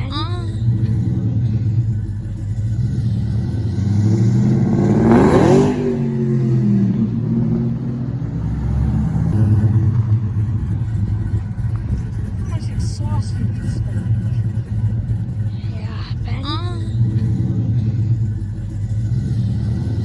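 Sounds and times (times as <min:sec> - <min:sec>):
car engine rumbling and revving: 0:00.0 - 0:20.0.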